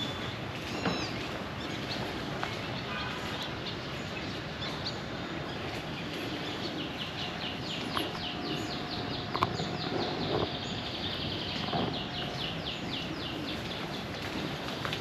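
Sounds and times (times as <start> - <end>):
outdoor background noise: 0.0 - 15.0
songbird chirping: 0.0 - 15.0.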